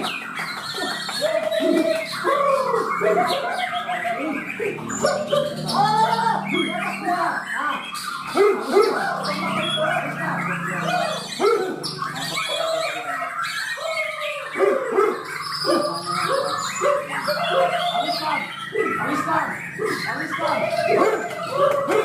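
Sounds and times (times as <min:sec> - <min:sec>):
birds whistling and chirping: 0:00.0 - 0:22.0.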